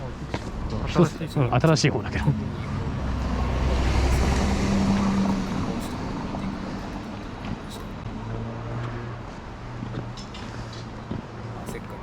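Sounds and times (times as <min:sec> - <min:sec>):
vehicle passing by: 0:00.1 - 0:12.0.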